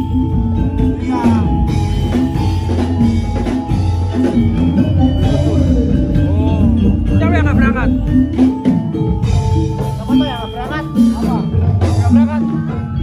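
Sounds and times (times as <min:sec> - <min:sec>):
loud music with drum beat: 0:00.0 - 0:13.0.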